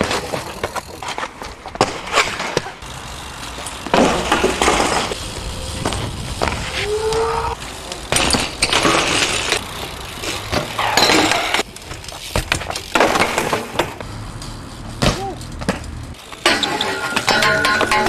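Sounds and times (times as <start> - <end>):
bike landing knocks and clatters: 0.0 - 2.9, 3.5 - 6.6, 7.7 - 18.0
bike scraping on concrete: 0.0 - 18.0.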